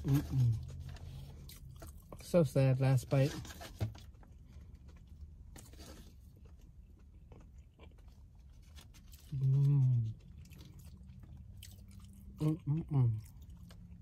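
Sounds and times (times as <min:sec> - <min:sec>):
person chewing: 0:00.0 - 0:02.2, 0:04.0 - 0:14.0.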